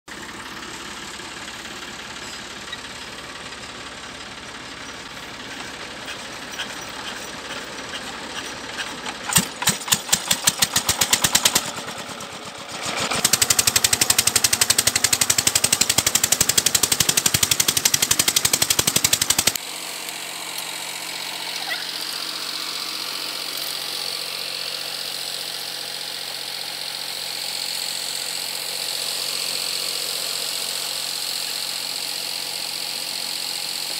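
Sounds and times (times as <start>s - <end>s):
diesel pump engine running: 0.1s - 33.9s.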